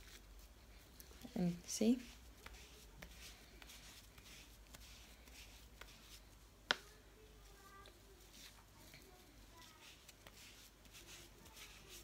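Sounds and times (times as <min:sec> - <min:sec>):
cotton pad scuffing on skin: 0:00.0 - 0:07.0, 0:07.8 - 0:12.0.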